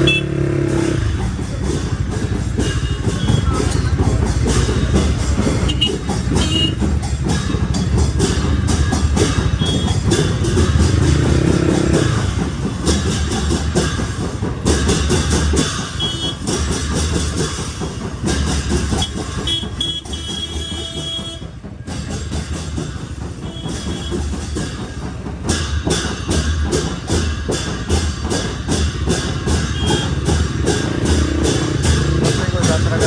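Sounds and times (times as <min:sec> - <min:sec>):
motorcycle running: 0:00.0 - 0:33.0
music with clicking percussive beat: 0:00.0 - 0:33.0.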